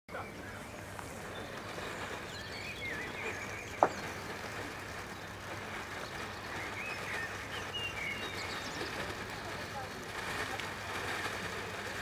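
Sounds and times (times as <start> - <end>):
firework sparks hissing: 0.1 - 12.0.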